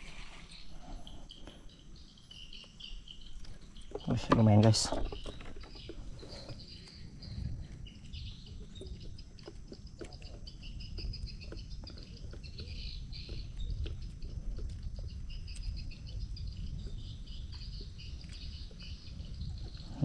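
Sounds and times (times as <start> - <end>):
steady low rumble: 3.1 - 20.0.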